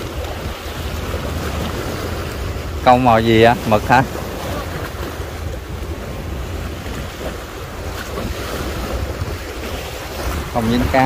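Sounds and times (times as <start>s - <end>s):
waves washing over rocks: 0.0s - 11.0s
wind buffeting microphone: 0.0s - 11.0s.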